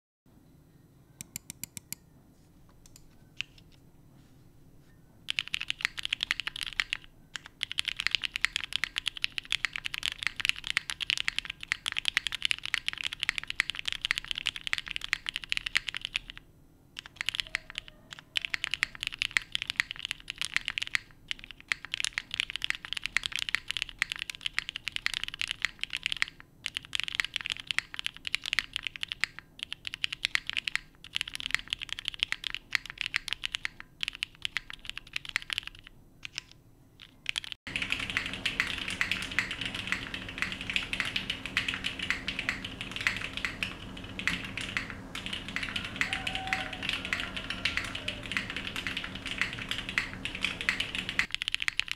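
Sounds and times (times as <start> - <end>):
fast typing on mechanical keyboard: 5.3 - 16.4, 17.0 - 51.9.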